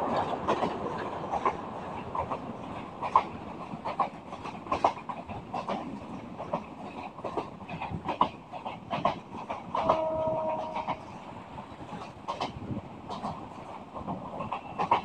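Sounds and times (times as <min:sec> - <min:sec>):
train carriage rumbling: 0:00.0 - 0:15.0.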